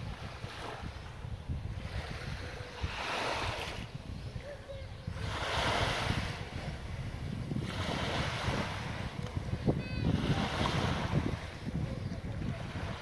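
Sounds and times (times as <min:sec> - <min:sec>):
small waves washing up beach: 0:00.0 - 0:13.0
wind rumble on microphone: 0:00.0 - 0:13.0.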